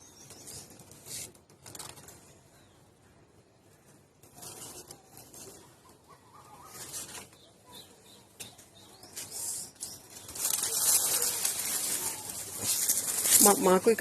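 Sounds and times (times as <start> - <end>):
leaves rustling: 0.3 - 2.8, 3.7 - 7.9, 8.8 - 14.0.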